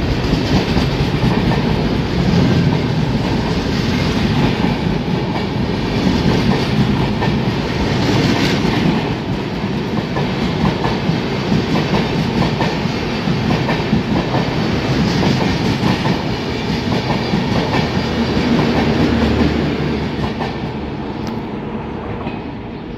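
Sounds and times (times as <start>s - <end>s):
train wheels clattering: 0.0s - 20.8s.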